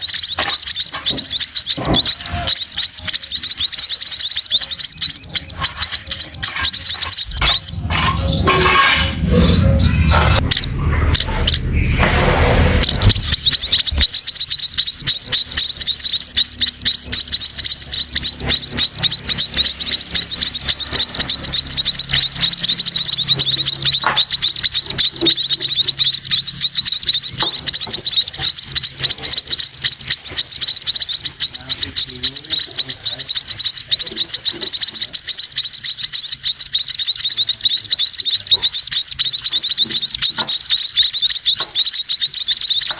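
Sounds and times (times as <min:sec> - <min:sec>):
chicks begging chirps: 0:00.0 - 0:42.9.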